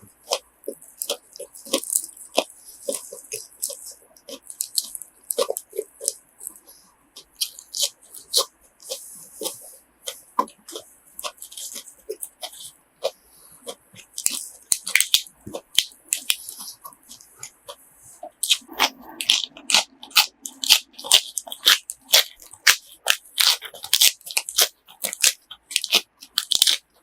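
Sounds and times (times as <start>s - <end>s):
person chewing crunchy food: 0.0s - 27.0s.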